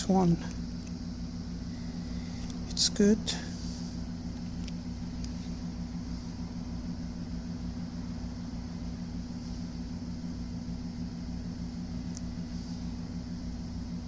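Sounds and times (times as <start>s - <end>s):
motor or fan humming: 0.0s - 14.0s.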